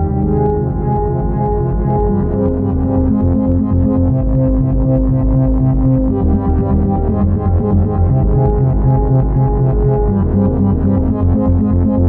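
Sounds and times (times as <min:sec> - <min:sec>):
pulsing synth bass note: 0:00.0 - 0:12.0.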